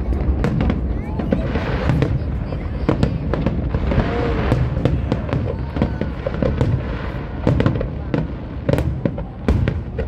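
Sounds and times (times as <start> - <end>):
fireworks booming: 0.0 - 10.0
fireworks sharp cracks: 0.0 - 10.0.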